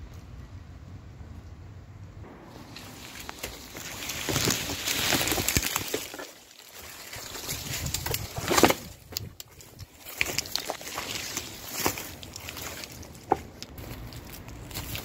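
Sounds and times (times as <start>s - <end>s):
branches and undergrowth rustling: 2.2s - 15.0s.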